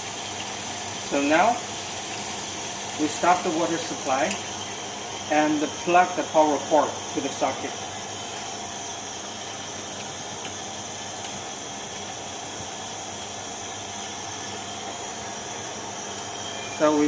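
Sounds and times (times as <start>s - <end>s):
faint hum: 2.8s - 17.0s.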